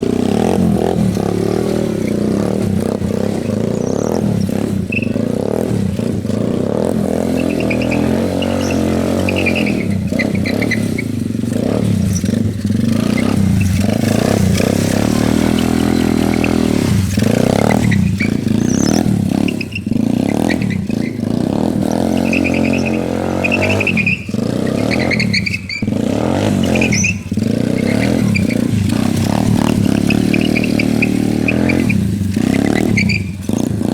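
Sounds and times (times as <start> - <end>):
engine revving: 0.0 - 33.9.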